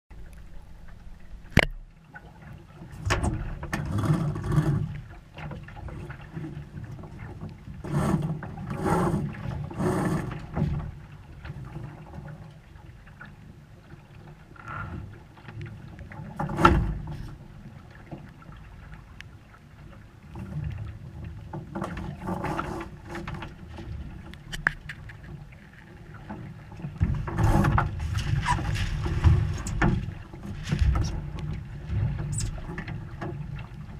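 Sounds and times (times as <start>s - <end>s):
water and wind rushing past hull: 0.1s - 33.9s.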